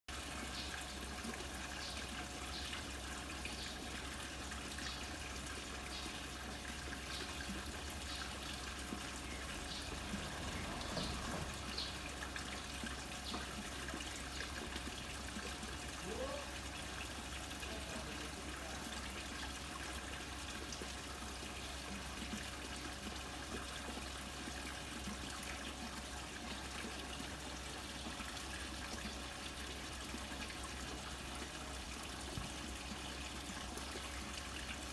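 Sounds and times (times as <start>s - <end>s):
water trickling into pond: 0.1s - 34.9s.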